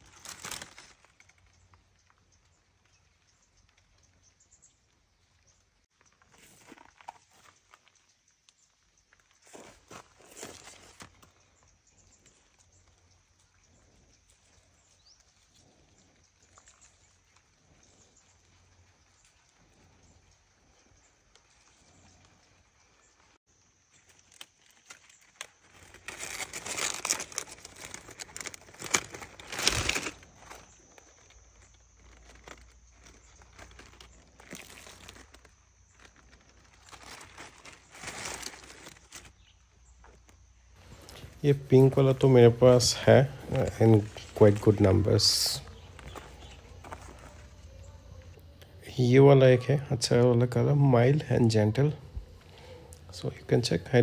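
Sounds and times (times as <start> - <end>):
rustling and crinkling leaves: 0.0 - 54.0.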